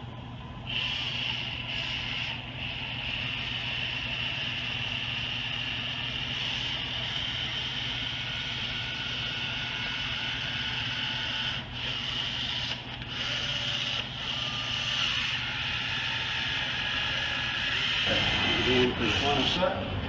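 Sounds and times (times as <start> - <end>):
caulking gun motor running: 0.7 - 19.8.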